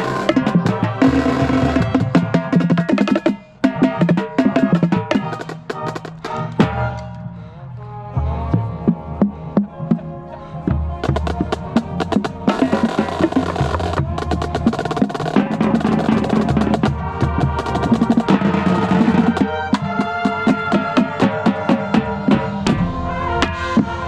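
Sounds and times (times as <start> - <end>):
tenor drums rapid strokes: 0.0 - 7.2, 11.0 - 24.0
marching band playing chords: 0.0 - 24.0.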